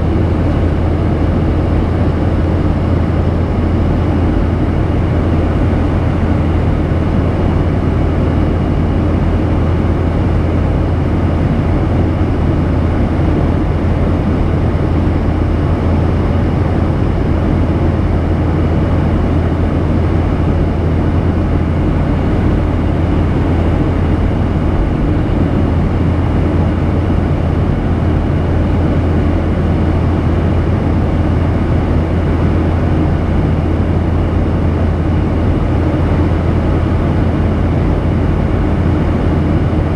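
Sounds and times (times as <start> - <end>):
jet engines droning: 0.0 - 39.9
low cabin hum: 0.0 - 39.9.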